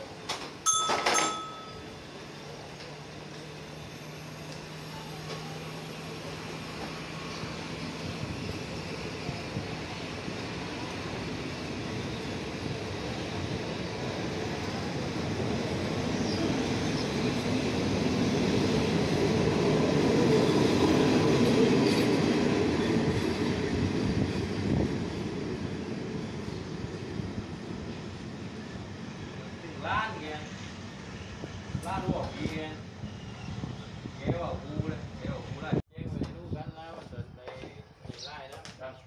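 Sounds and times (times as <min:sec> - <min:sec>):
train wheels rumbling on rails: 0:00.0 - 0:35.6.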